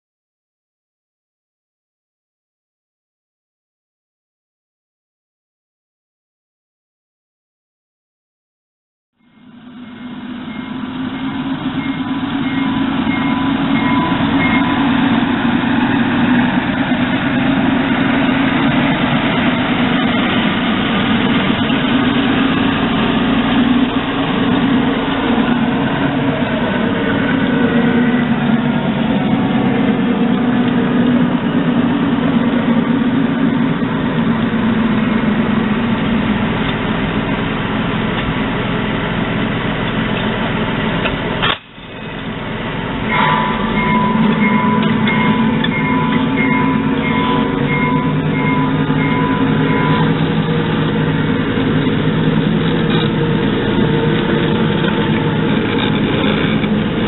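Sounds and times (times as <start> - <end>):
model locomotive running: 9.2 - 57.0.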